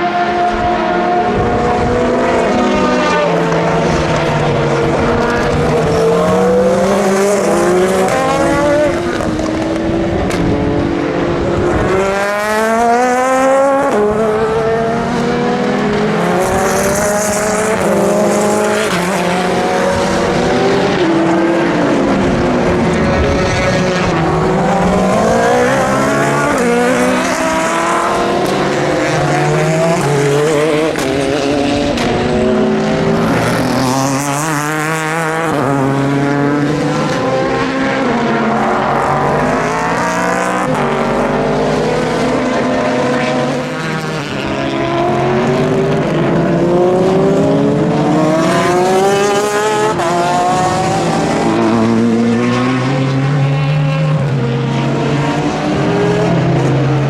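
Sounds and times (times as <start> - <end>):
racing cars passing: 0.0 - 57.0.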